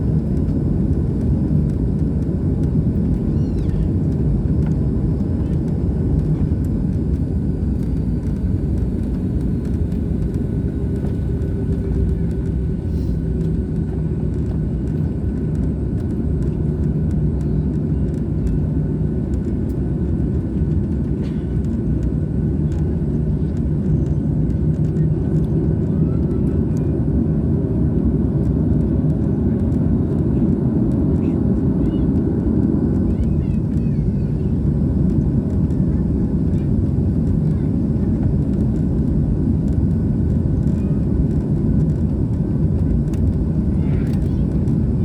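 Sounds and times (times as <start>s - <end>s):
jet engine rumble in cabin: 0.0s - 45.0s.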